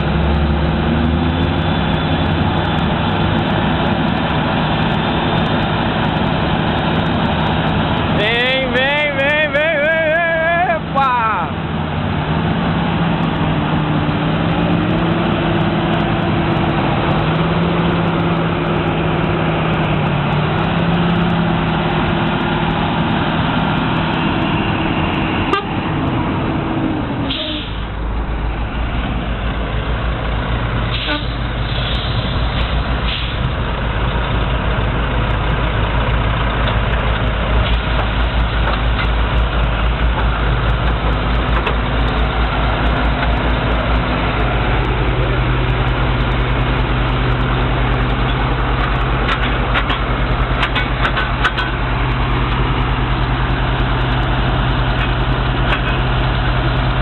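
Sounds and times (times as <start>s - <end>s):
fast-pulsing heavy diesel rumble: 0.0s - 57.0s
tractor diesel engines working hard: 0.0s - 57.0s.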